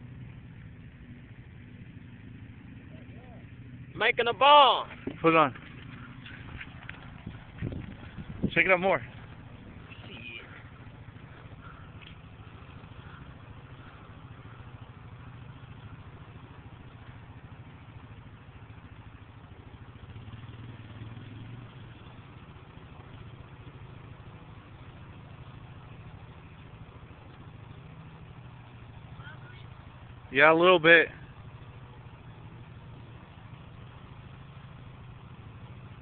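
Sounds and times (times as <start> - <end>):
engine idling: 0.0 - 36.0.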